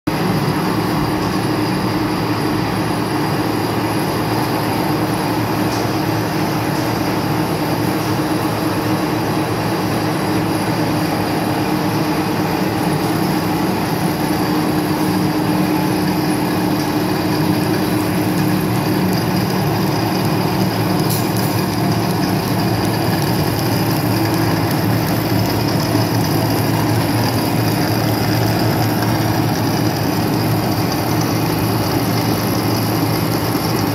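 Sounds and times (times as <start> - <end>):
wire-drawing machine running: 0.1 - 33.9.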